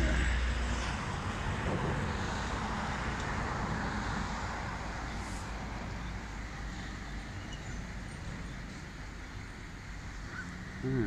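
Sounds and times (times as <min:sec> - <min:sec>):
wind rumble on microphone: 0:00.0 - 0:10.9
road traffic hum: 0:00.0 - 0:11.0.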